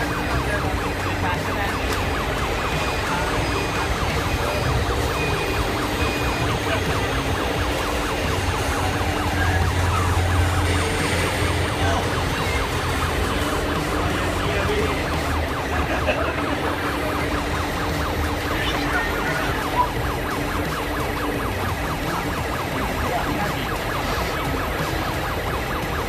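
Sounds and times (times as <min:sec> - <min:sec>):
toy truck engine sound module: 0:00.0 - 0:21.3.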